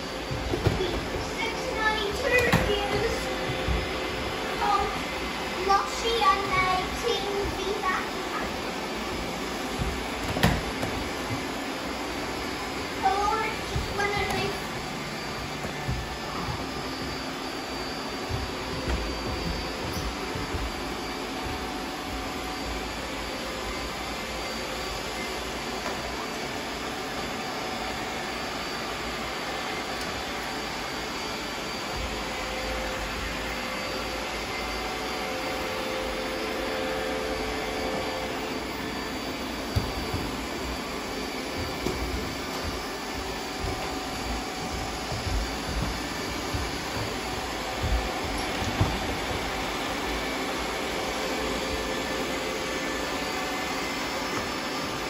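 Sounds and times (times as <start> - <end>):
robot vacuum cleaners whirring: 0.0 - 55.0.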